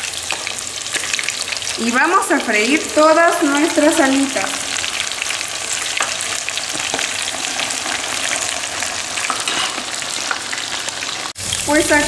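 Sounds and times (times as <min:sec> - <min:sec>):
chicken wings deep-frying in oil: 0:00.0 - 0:12.0.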